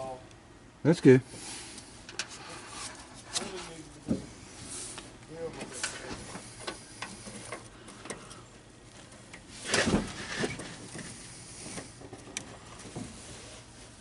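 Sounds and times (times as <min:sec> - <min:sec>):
scraping rustle: 0:01.4 - 0:07.6, 0:09.0 - 0:14.0.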